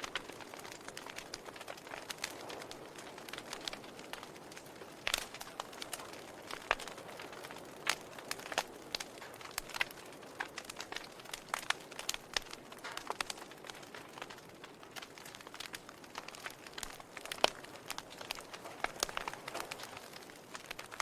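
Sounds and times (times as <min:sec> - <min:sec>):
fire pops and snaps: 0:00.0 - 0:21.0
fireplace fire crackling: 0:00.0 - 0:21.0.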